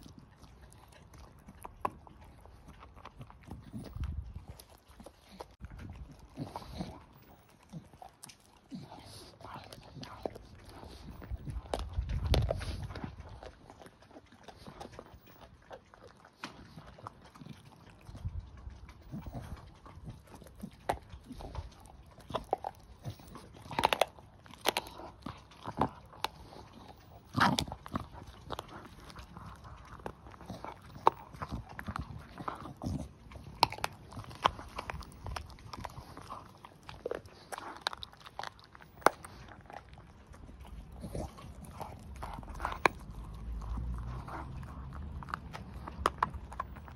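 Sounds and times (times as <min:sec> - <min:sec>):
dog chewing and crunching bone: 0:00.0 - 0:46.9.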